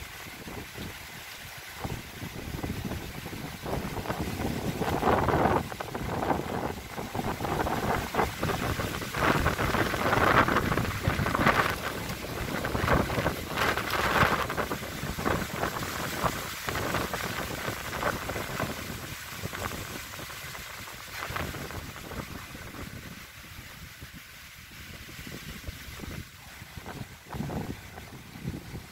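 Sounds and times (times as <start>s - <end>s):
gusty storm wind: 0.0s - 28.9s
wind rumbling on microphone: 0.0s - 28.9s.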